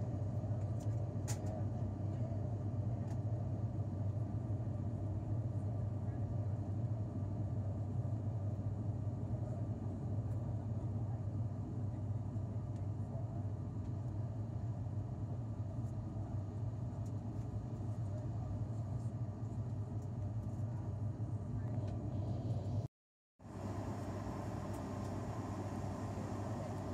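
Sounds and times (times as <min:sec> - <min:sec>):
turboprop airliner cabin drone: 0:00.0 - 0:26.9.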